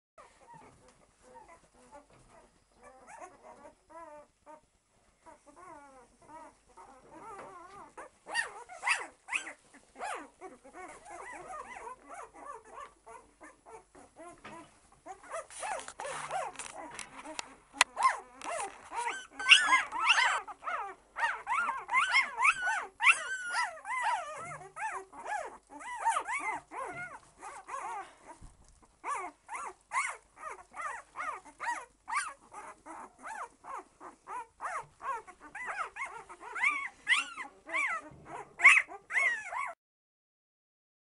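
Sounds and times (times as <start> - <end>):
puppies squeaking and whimpering: 0.2 - 39.8.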